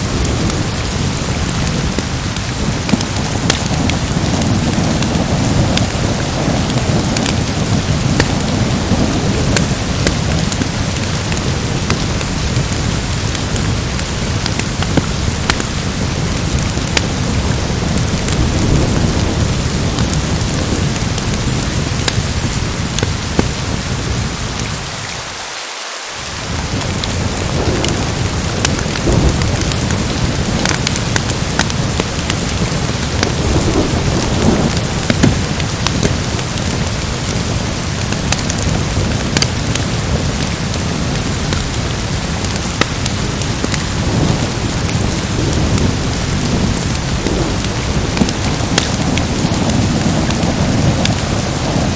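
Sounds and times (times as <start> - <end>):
thunder rumbling: 0.0 - 25.0, 26.3 - 51.9
heavy rain: 0.0 - 51.9.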